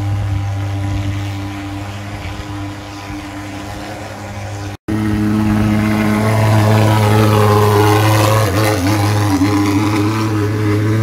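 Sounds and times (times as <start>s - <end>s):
fogging machine droning: 0.0s - 11.0s.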